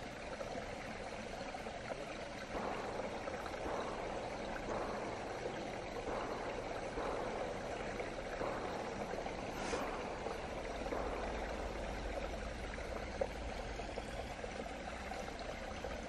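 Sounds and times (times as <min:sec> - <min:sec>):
stream running: 0:00.0 - 0:16.0.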